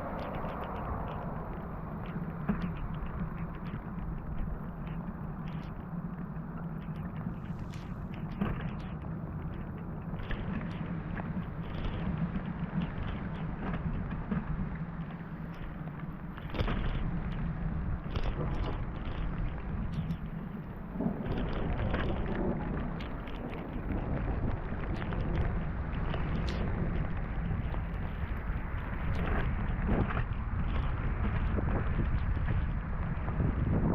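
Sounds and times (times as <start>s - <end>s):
low rumble: 0.0s - 6.1s, 6.9s - 33.9s
raindrops striking close by: 0.0s - 33.9s.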